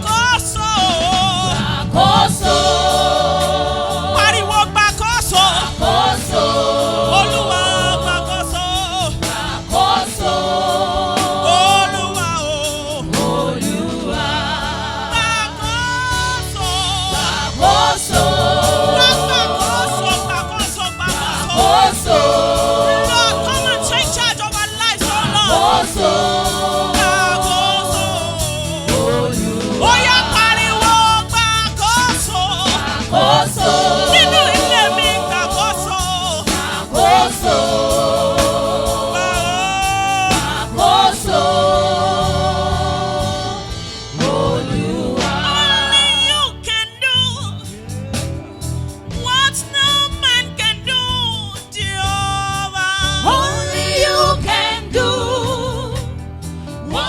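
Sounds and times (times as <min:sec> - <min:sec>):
instrumental backing with beat: 0:00.0 - 0:57.0
voices singing gospel song: 0:00.0 - 0:57.0.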